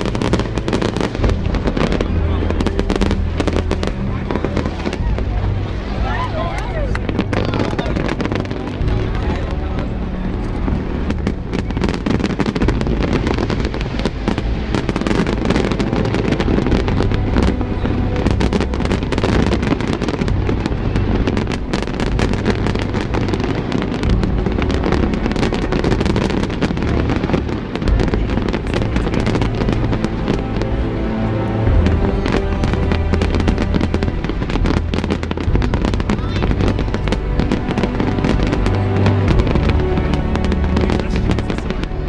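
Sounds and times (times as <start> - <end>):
fireworks crackling and popping: 0.0 - 42.0
low rumble of firework bursts: 0.0 - 42.0.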